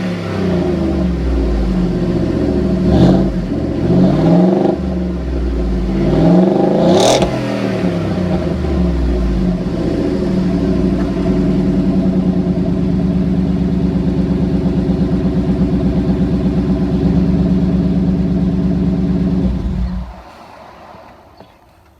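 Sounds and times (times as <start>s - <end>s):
truck engine revving and idling: 0.0s - 21.9s.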